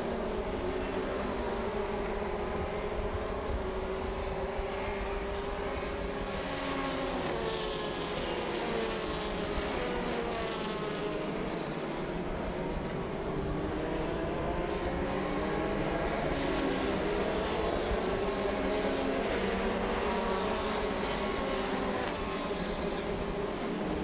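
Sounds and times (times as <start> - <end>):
race car engines passing: 0.0 - 24.0.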